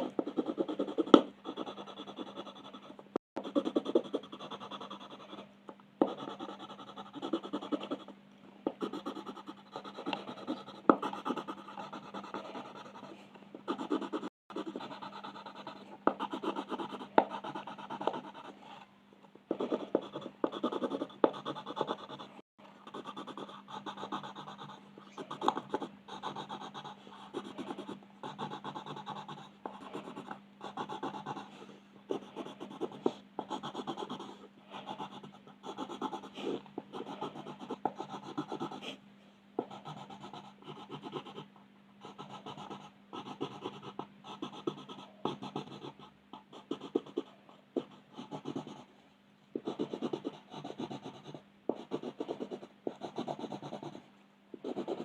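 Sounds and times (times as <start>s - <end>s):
pencil scratching on paper: 0.0s - 8.1s, 8.7s - 18.9s, 19.5s - 39.0s, 39.6s - 48.9s, 49.6s - 54.0s, 54.6s - 55.0s
faint steady hum: 0.0s - 55.0s.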